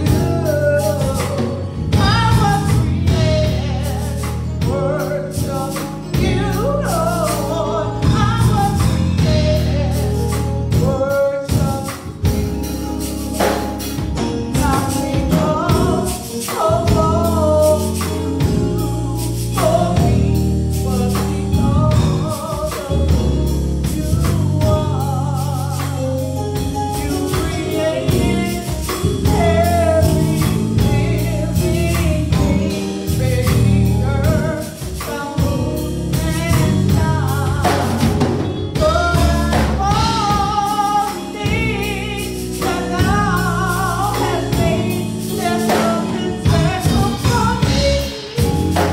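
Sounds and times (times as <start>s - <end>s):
bass: 0.0s - 48.9s
group of singers singing gospel: 0.0s - 48.9s
percussion keeping a steady beat: 0.0s - 48.9s.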